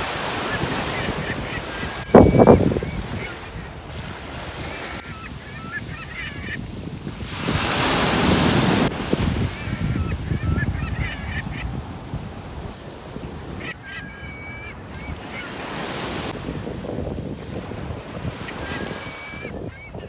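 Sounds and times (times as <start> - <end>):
birds honking: 0.0 - 16.3
waves: 0.0 - 20.0
wind: 0.0 - 20.0.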